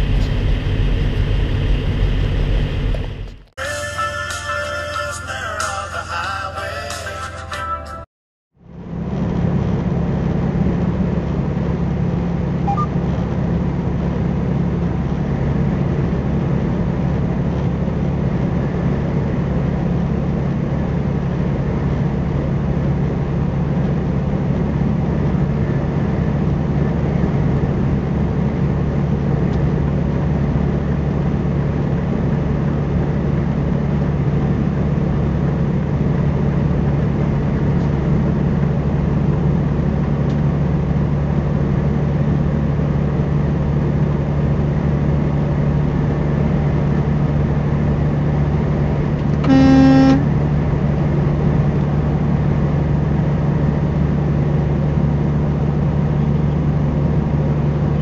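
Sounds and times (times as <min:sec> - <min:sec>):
road noise: 0:00.0 - 0:58.0
truck diesel engine drone: 0:00.0 - 0:58.0.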